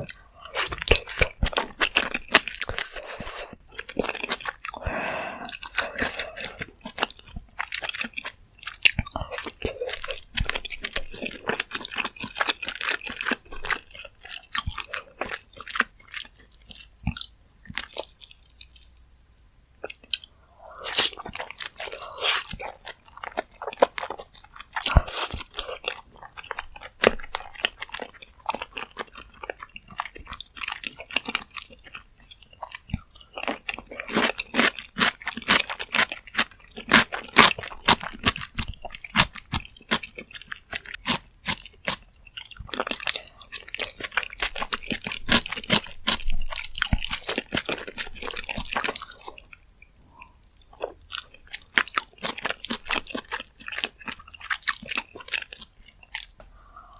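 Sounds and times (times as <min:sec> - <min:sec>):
chewing and biting food: 0:00.0 - 0:56.9.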